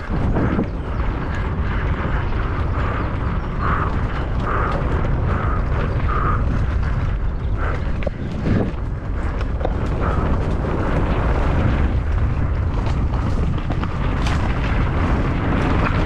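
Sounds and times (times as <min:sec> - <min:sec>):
bike rattling over trail: 0:00.0 - 0:16.0
wind rumble on microphone: 0:00.0 - 0:16.0.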